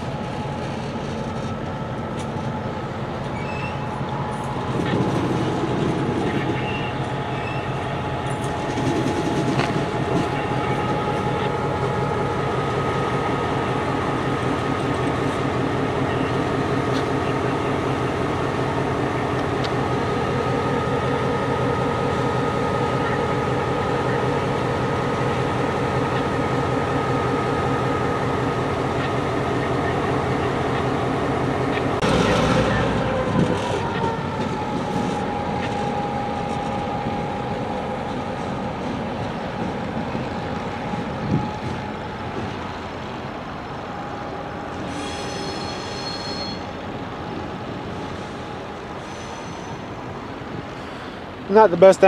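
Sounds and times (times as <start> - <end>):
train passing with rush of noise: 0.0 - 52.0
train whine: 0.0 - 52.0.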